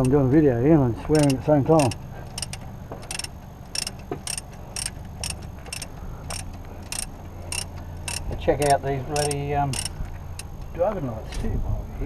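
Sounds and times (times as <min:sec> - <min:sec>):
low steady hum: 0:00.0 - 0:12.0
ratchet spanner clicking: 0:01.1 - 0:11.5.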